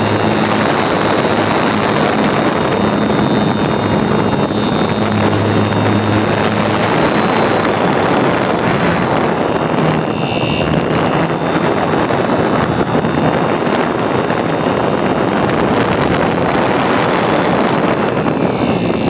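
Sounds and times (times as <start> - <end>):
model airplane motor whine: 0.0 - 19.0
rushing air: 0.0 - 19.0.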